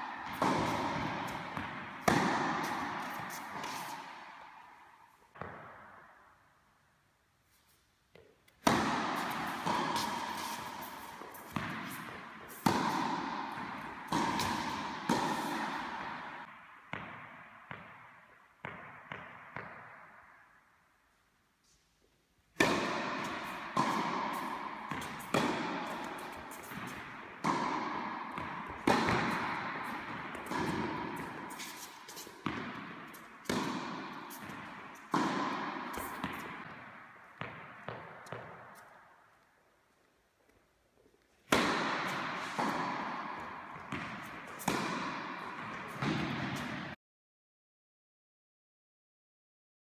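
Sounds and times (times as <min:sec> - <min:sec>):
tennis racket strikes: 0:00.0 - 0:06.1, 0:08.1 - 0:20.0, 0:22.6 - 0:39.3, 0:41.4 - 0:47.0
tennis ball bounces: 0:00.0 - 0:06.2, 0:08.1 - 0:20.2, 0:22.6 - 0:39.4, 0:41.4 - 0:47.0.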